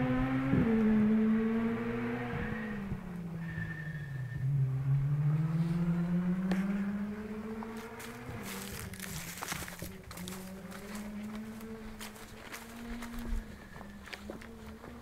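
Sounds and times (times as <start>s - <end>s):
distant rally car engine revving: 0.0s - 15.0s.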